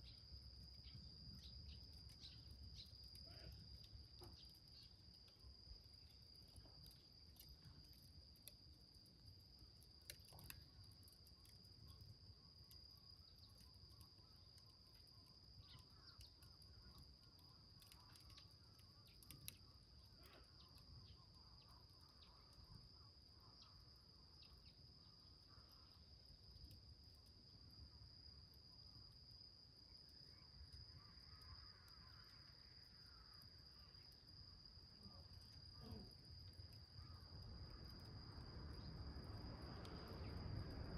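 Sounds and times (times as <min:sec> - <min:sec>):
high insect trill: 0:00.0 - 0:40.9
wood fire crackling: 0:00.1 - 0:28.4, 0:30.3 - 0:40.9.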